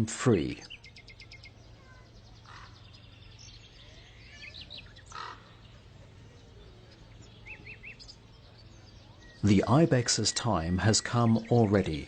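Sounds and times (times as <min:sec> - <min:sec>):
faint outdoor background noise: 0:00.0 - 0:12.0
small birds chirping: 0:00.0 - 0:12.0.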